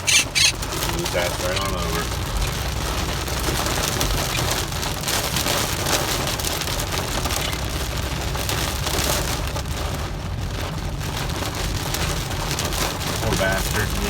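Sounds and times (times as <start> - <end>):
heavy rain on vehicle roof: 0.0 - 14.0.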